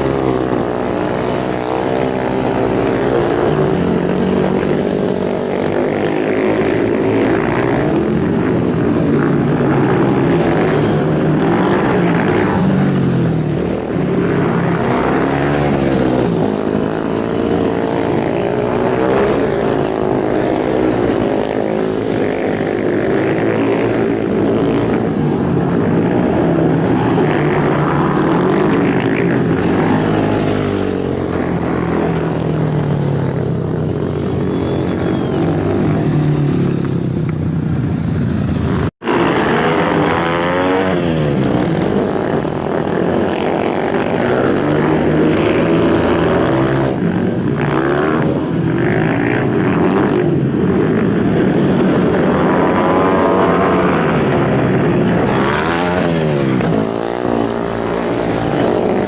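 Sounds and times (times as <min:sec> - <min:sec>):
racing motorcycles passing: 0:00.0 - 0:59.0.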